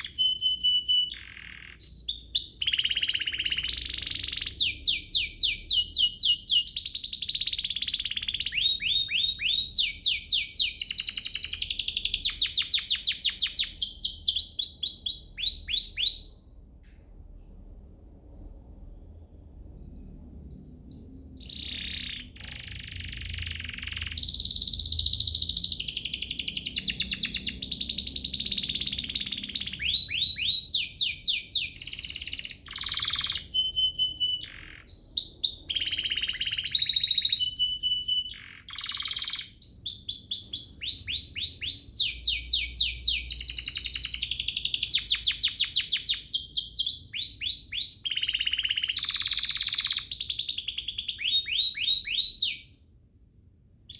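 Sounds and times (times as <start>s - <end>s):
canary singing trills: 0.0s - 16.6s, 19.7s - 52.9s.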